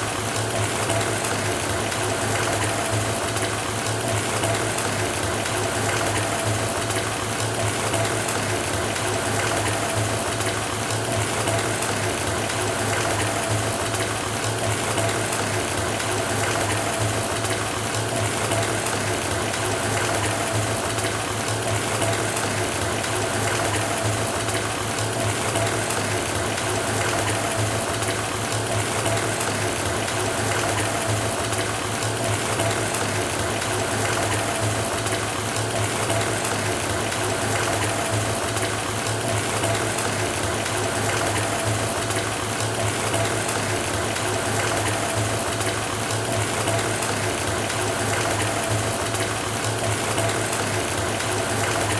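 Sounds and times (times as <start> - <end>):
faucet filling bathtub: 0.0 - 51.9.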